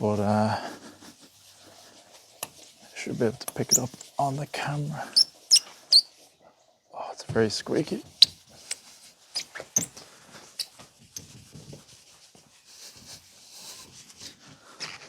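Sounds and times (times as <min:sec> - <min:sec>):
cloth rubbing plastic lens: 0:00.6 - 0:06.4, 0:07.8 - 0:15.0.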